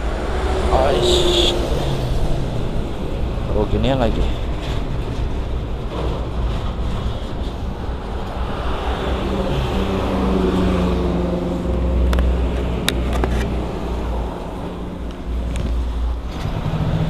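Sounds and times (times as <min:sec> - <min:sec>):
engine drone: 0:00.0 - 0:17.0
road traffic: 0:00.0 - 0:17.0.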